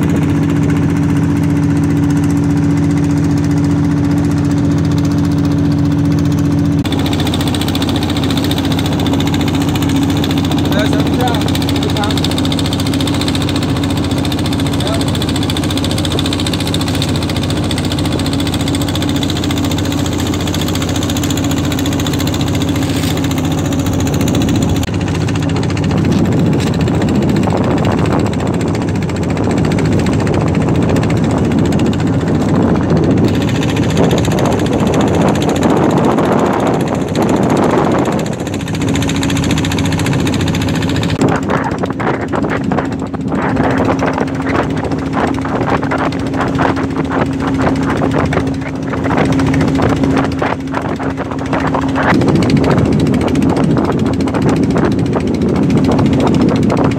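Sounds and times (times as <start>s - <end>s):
motorboat engine running: 0.0s - 56.9s.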